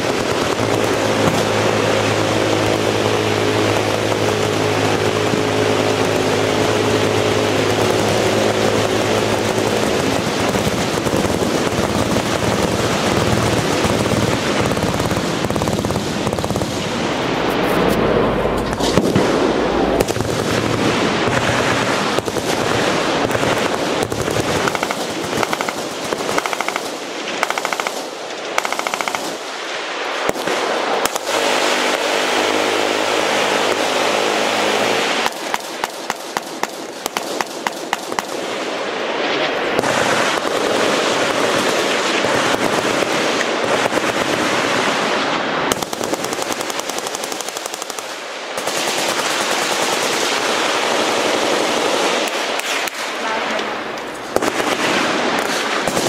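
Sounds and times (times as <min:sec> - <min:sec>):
machine gun fire: 0:00.0 - 0:17.4, 0:18.6 - 0:29.5, 0:30.2 - 0:38.5, 0:39.7 - 0:45.1, 0:45.7 - 0:53.4, 0:54.2 - 0:56.0.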